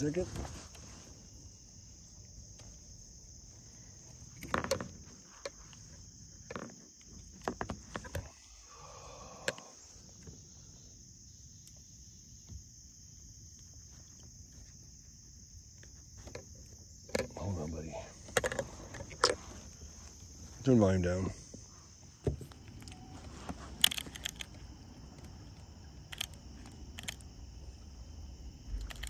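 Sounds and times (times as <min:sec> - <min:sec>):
insects calling: 0:00.0 - 0:29.0.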